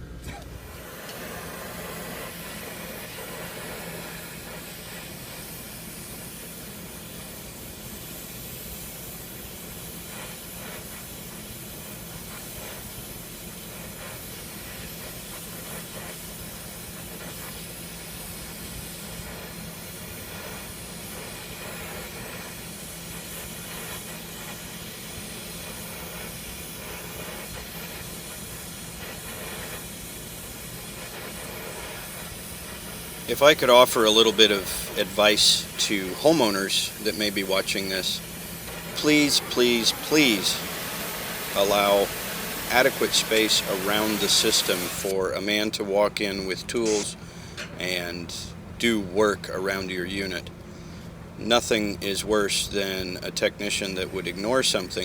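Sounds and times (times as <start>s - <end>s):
torch flame hissing: 0.0s - 55.0s.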